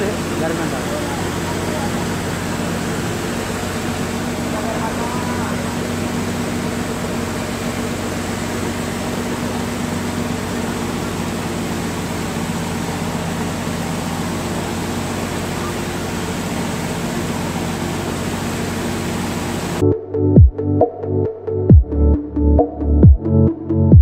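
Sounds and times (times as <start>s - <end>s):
boat engine humming: 0.0s - 21.2s.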